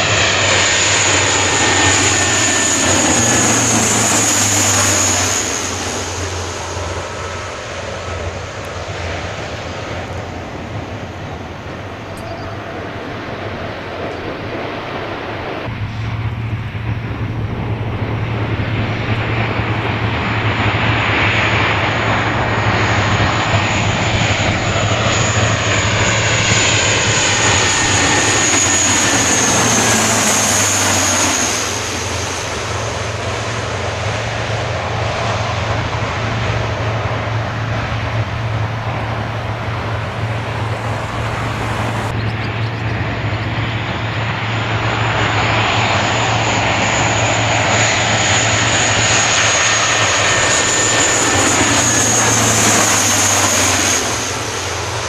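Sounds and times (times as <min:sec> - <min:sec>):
jet engines passing by: 0:00.0 - 0:55.0.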